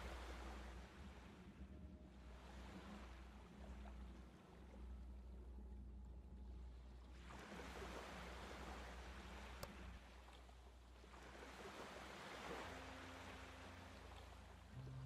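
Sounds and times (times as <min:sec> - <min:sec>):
faint low hum: 0:00.0 - 0:11.5, 0:12.5 - 0:15.0.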